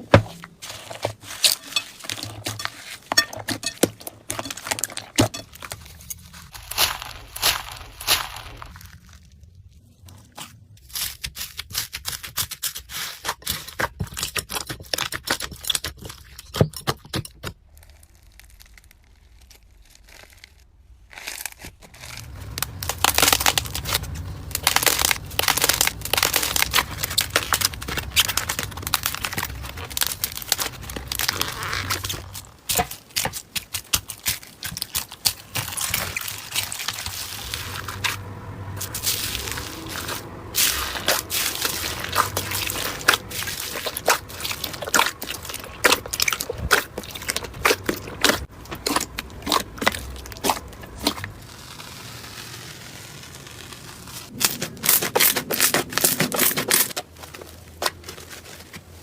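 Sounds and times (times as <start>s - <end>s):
slime crackling and popping: 0.2s - 10.1s, 17.5s - 58.6s.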